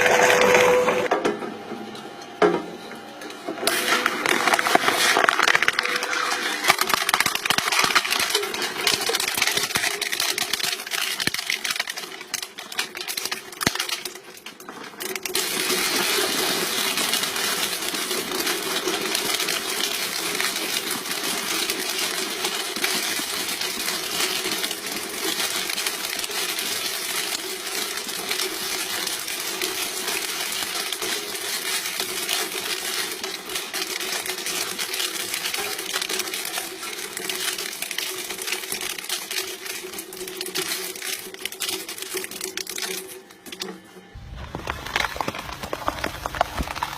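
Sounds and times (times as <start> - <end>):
shredding machine crunching: 0.0 - 1.3, 3.4 - 46.9.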